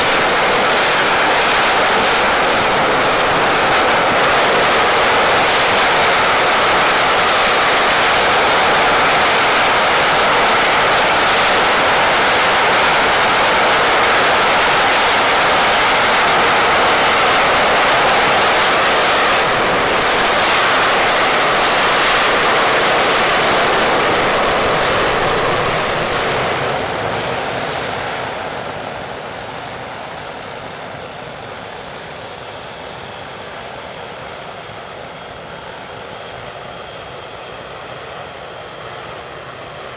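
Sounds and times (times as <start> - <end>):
jet engine roaring: 0.0 - 39.9.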